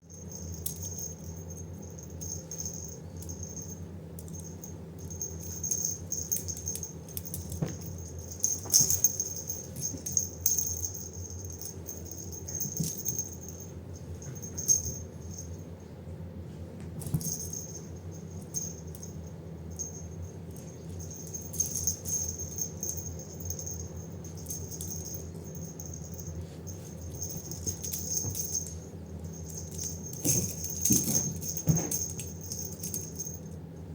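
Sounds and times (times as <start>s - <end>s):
cat toy jingling and rattling: 0.0s - 15.7s, 17.0s - 33.7s
small bell ringing: 0.0s - 15.7s, 17.1s - 33.6s
steady low hum: 0.0s - 33.9s.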